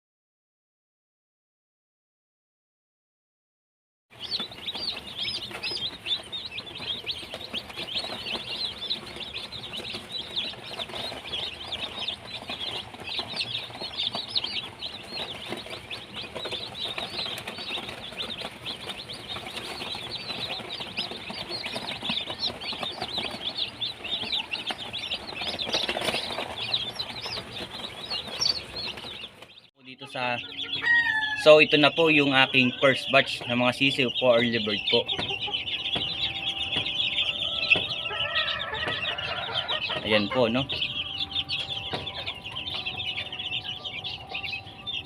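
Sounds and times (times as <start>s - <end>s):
chicks peeping: 4.1s - 45.0s.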